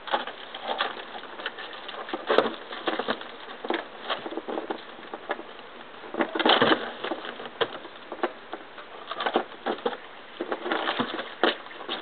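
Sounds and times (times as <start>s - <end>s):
irregular knocks and scrapes: 0.0s - 12.0s.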